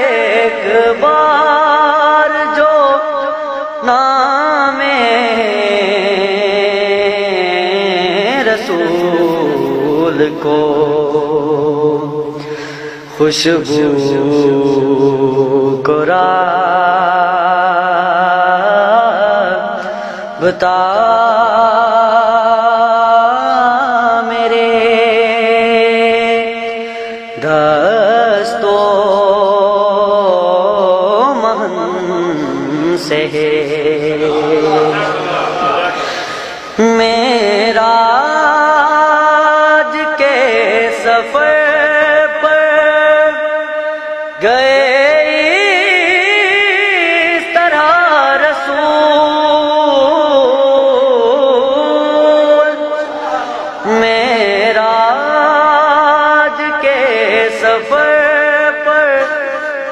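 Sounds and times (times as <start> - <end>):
person singing devotional poem: 0.0 - 59.9.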